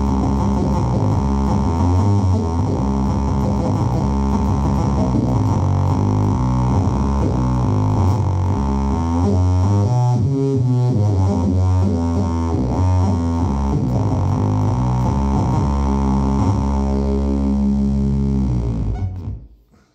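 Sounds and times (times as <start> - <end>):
droning electric bass: 0.0 - 19.6.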